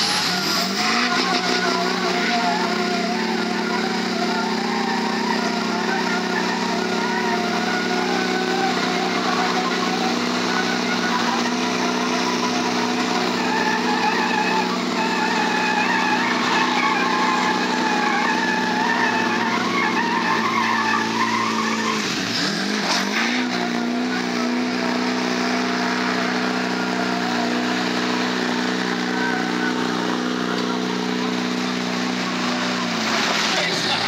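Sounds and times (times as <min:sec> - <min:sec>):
tires squealing on wet pavement: 0:00.0 - 0:34.0
truck engines running hard: 0:00.0 - 0:34.0.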